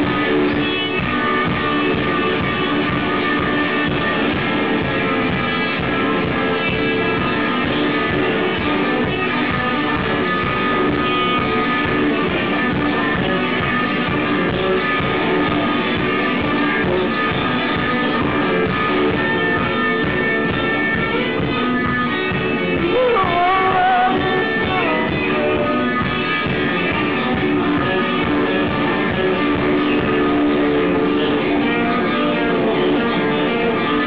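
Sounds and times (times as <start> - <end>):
guitar rock music: 0.0 - 34.0.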